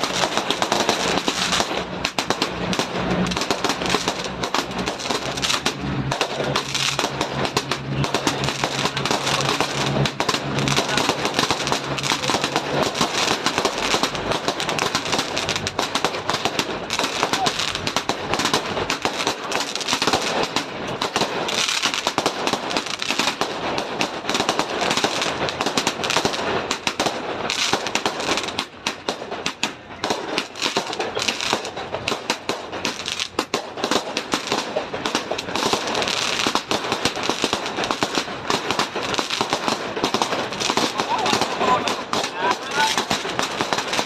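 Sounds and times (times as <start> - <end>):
firecrackers cracking: 0.0 - 44.0.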